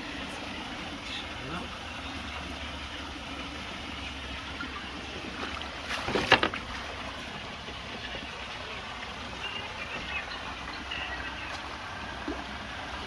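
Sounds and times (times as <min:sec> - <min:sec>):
pool water rushing: 0:00.0 - 0:13.0.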